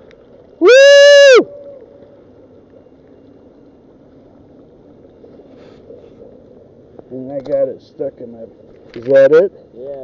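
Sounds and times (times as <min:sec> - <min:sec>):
faint background noise: 0:00.0 - 0:10.0.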